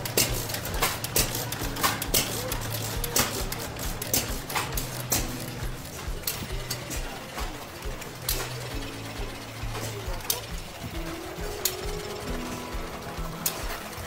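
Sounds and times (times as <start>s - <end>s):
engine exhaust beats: 0.0s - 14.0s.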